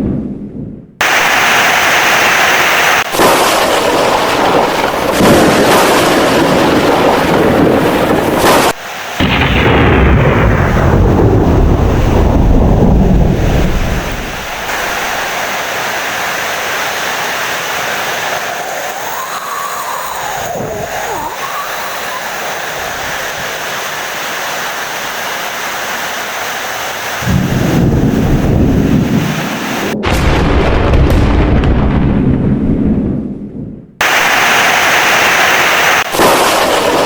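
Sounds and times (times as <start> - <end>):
thunder rumbling: 0.0 - 23.6, 27.2 - 37.0
heavy rain: 1.0 - 30.8, 34.0 - 37.0.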